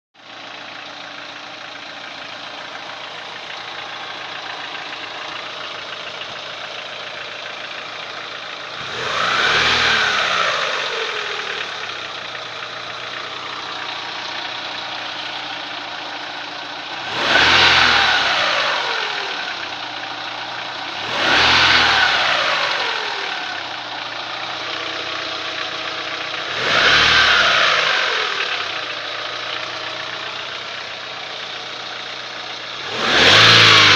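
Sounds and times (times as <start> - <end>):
car engine idling and revving: 0.2 - 33.9
engine knock: 0.2 - 33.9.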